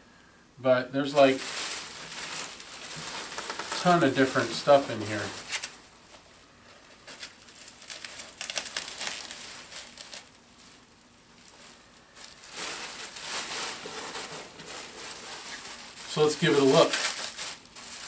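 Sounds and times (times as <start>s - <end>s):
packing material crinkling: 1.0s - 18.0s.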